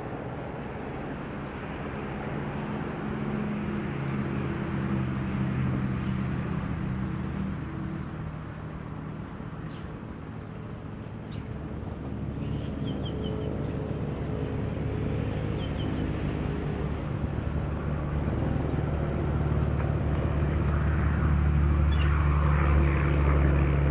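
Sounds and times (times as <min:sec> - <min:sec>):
vehicle engine running: 0:00.7 - 0:23.9.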